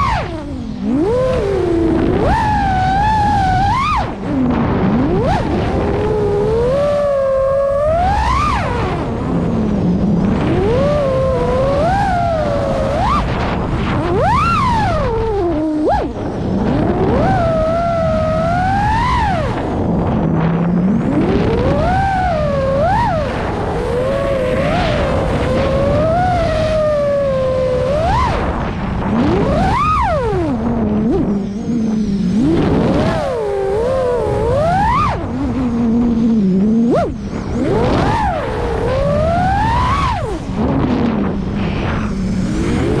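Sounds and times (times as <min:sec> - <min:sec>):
drone motors whining: 0:00.0 - 0:43.0.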